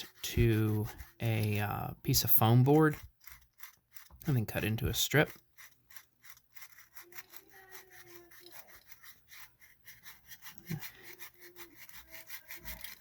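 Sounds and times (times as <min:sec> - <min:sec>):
sandpaper rasping on metal: 0:00.0 - 0:04.7, 0:05.3 - 0:13.0.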